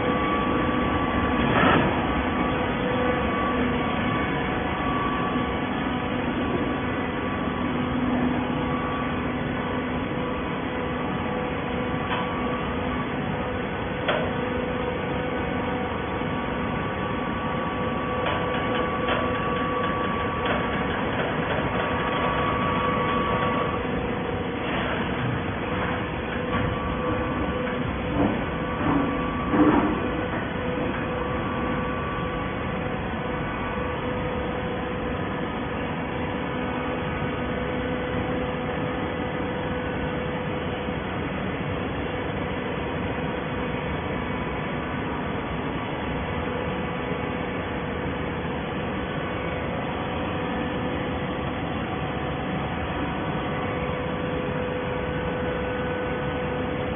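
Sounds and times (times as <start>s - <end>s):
baler machine hum: 0.0s - 56.9s.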